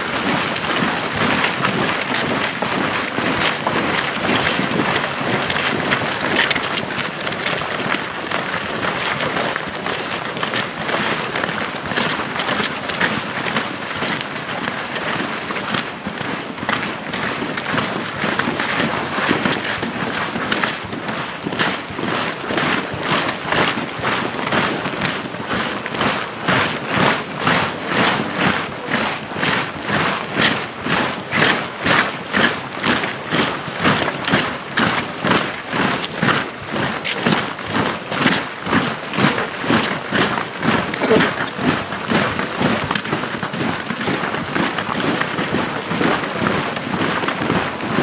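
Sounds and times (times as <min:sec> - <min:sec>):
soldiers marching on snow: 0:00.0 - 0:48.0.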